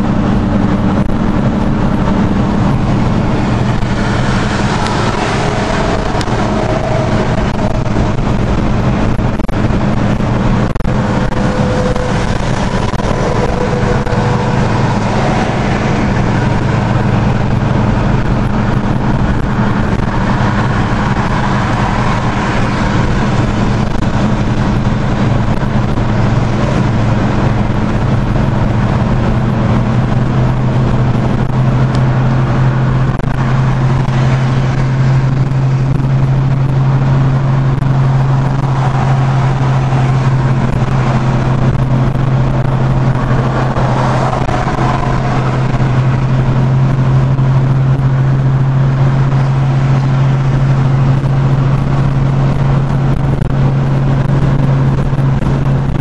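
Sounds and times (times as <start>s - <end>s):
car cabin road drone: 0.0s - 56.0s.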